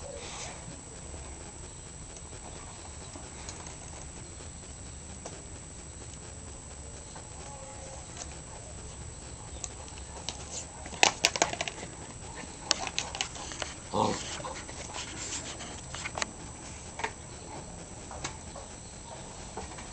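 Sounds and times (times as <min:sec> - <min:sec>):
puppy vocalizing: 0:00.0 - 0:19.4
sharp clicks and taps: 0:01.4 - 0:18.8.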